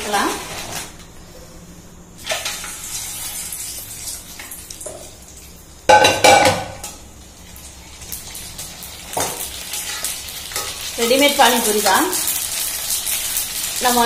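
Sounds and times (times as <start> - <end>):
food sizzling in hot oil: 2.2 - 14.0.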